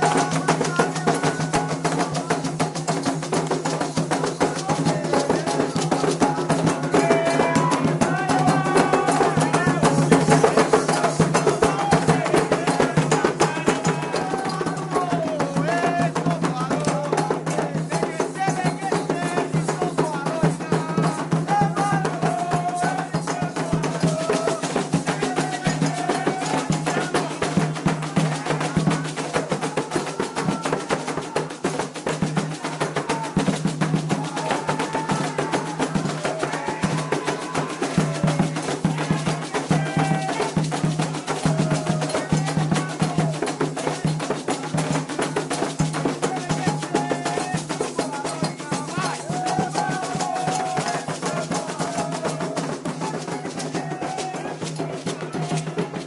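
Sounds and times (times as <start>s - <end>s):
hand drums beating: 0.0s - 56.0s
voices singing a chant: 0.0s - 56.0s.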